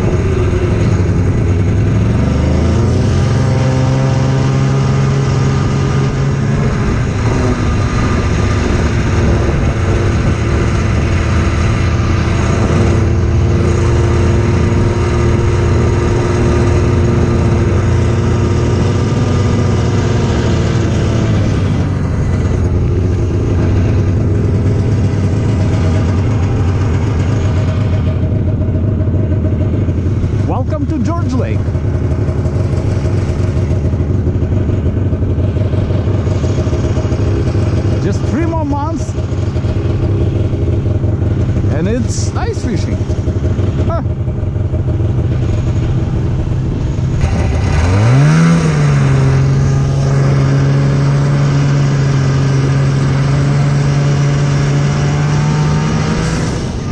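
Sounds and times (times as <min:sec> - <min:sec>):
snowmobile engine running: 0:00.0 - 0:56.9.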